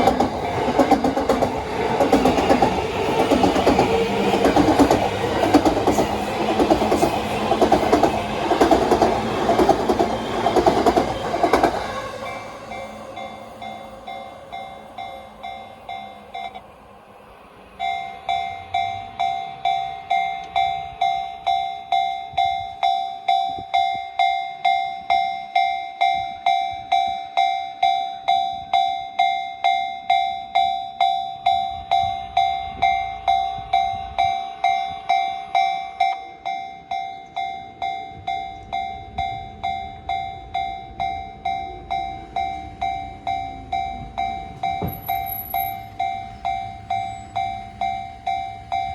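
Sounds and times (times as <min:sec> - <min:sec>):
level crossing warning bell: 0:00.0 - 0:17.1, 0:17.7 - 0:48.9
low rumble of passing train: 0:00.0 - 0:48.9.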